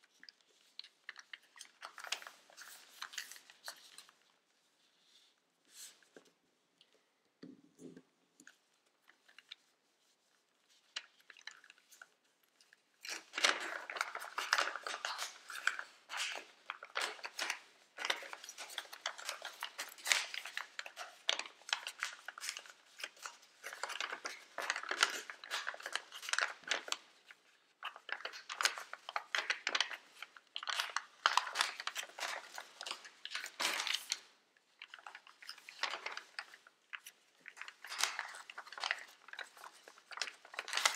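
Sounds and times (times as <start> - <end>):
paper crinkling and folding: 0.0 - 7.1, 8.4 - 40.9.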